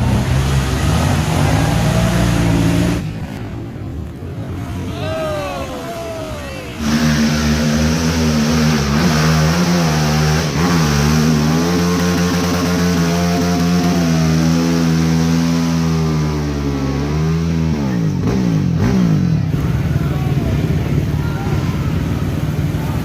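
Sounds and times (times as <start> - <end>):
atv engine revving: 0.0 - 23.0.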